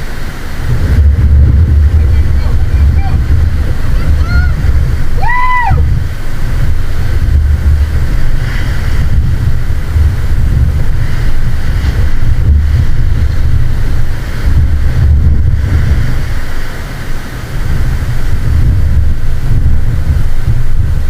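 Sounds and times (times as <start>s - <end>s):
breaking surf: 0.0s - 21.0s
wind buffeting microphone: 0.0s - 21.0s.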